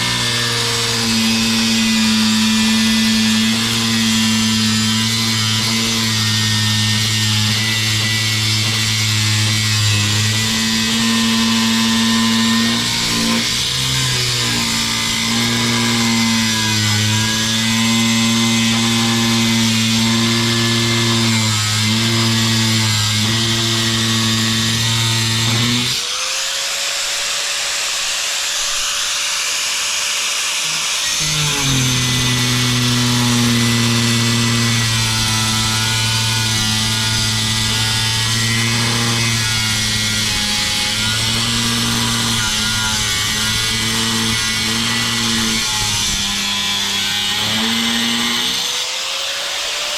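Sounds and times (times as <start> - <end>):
angle grinder cutting tile: 0.0 - 49.9.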